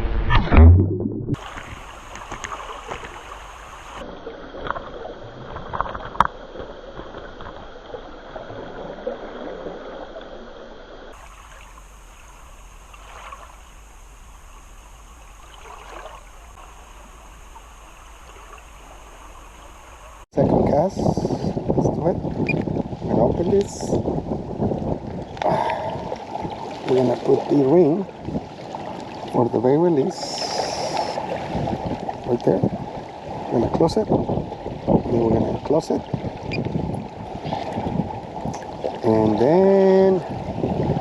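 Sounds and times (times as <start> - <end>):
lake water lapping: 1.3 - 6.0, 11.1 - 20.3, 21.1 - 41.0.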